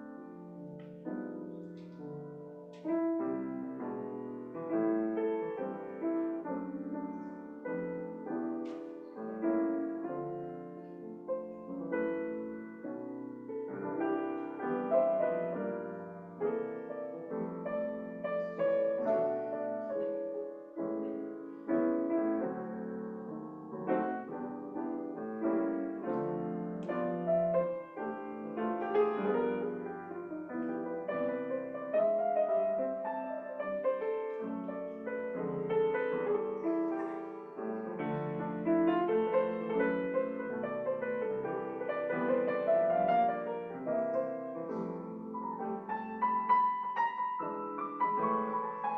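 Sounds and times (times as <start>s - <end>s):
solo piano music: 0.0s - 48.9s.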